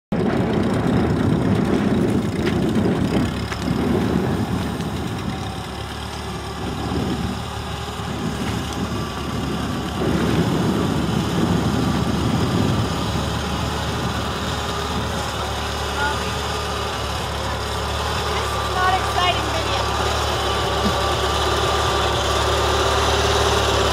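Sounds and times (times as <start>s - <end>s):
tractor engine running: 0.1s - 23.9s.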